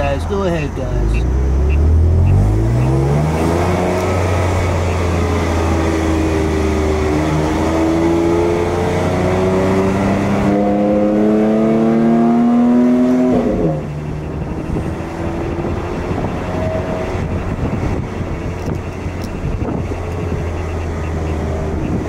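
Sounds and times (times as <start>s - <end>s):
car engine revving from cabin: 1.0s - 22.0s.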